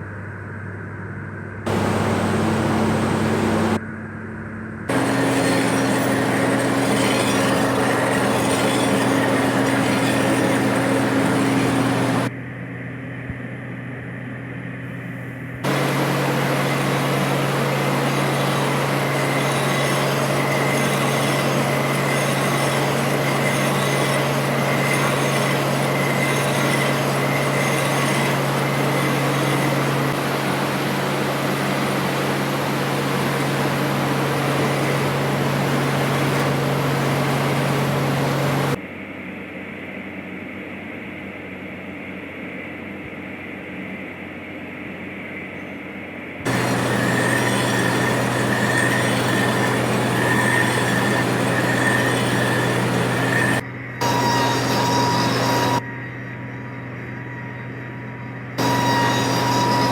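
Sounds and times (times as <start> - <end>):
dull steady noise: 0.0 - 59.9
machinery humming: 1.6 - 3.8, 4.9 - 38.8, 46.5 - 59.9
faint high whine: 1.7 - 3.8, 4.9 - 59.9.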